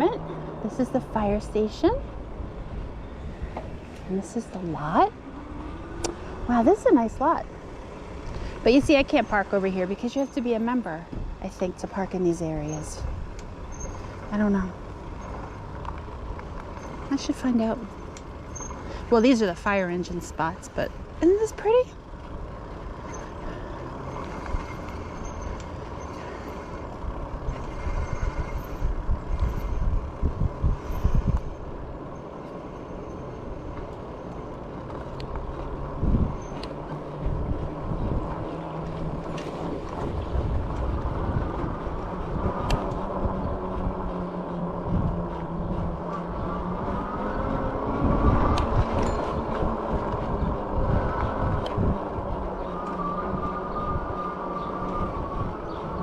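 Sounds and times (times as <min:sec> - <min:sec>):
high hub motor whine: 0:00.0 - 0:56.0
tyre noise on road: 0:00.0 - 0:56.0
wind buffeting microphone: 0:00.0 - 0:56.0.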